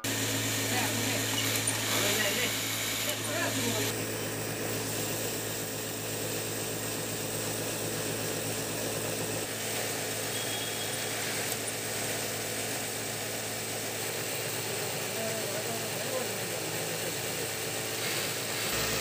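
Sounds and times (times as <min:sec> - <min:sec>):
sewing machine hum and whir: 0:00.0 - 0:19.0.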